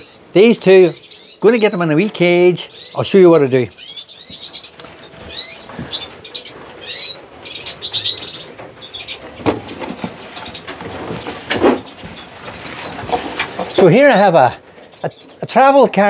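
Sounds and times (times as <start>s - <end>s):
small birds chirping and twittering: 0.0s - 16.0s.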